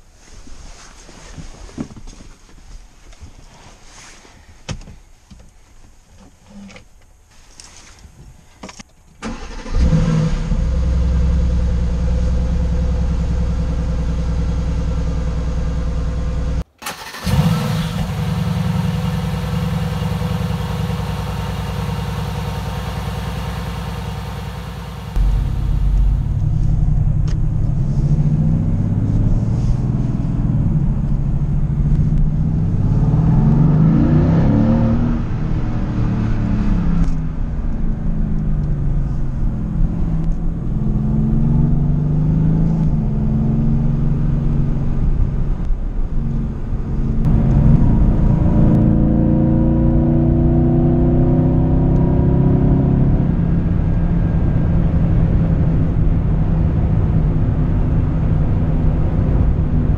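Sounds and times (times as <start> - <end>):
low road rumble: 0.0 - 59.9
car engine accelerating: 9.2 - 59.9.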